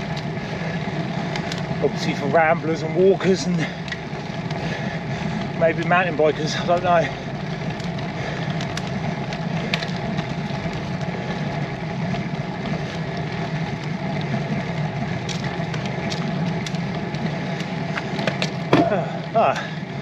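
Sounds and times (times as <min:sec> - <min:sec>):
bike tyres rolling on tarmac: 0:00.0 - 0:20.0
small clicks and ticks: 0:00.0 - 0:20.0.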